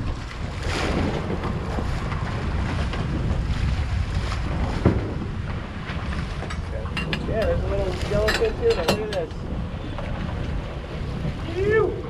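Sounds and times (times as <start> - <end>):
water churning along hull: 0.0 - 12.0
wind buffeting microphone: 0.0 - 12.0.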